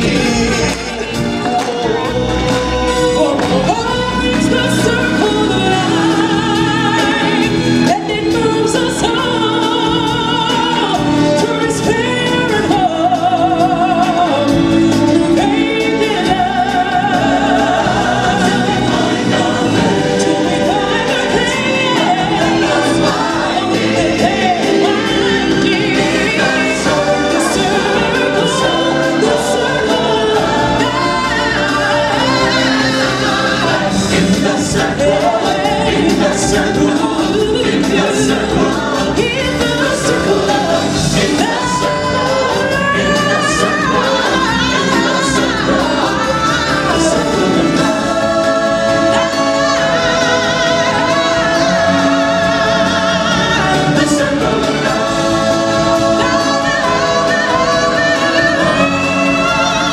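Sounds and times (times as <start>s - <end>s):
loud backing music: 0.0s - 59.9s
woman singing into microphone: 1.4s - 34.2s, 34.8s - 54.9s, 55.9s - 59.9s.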